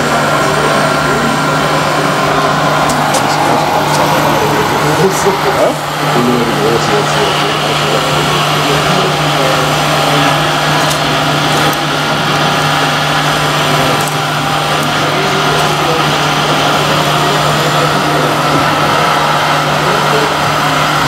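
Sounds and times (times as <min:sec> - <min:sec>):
hydraulic pump whirring: 0:00.0 - 0:21.0.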